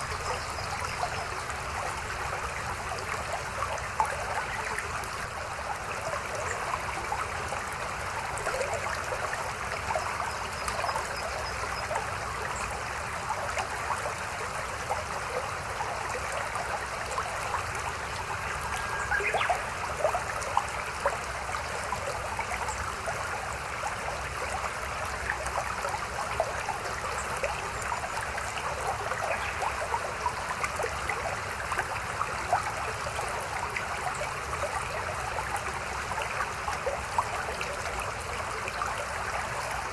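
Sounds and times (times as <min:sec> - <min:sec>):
small water splashes: 0:00.0 - 0:39.9
stream babbling: 0:00.0 - 0:39.9.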